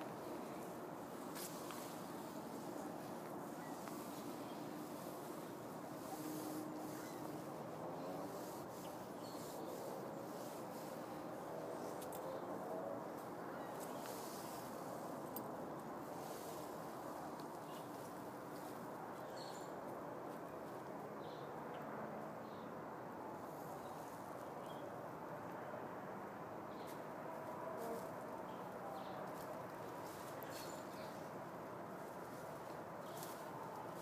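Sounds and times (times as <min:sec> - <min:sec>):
faint outdoor background noise: 0:00.0 - 0:34.0.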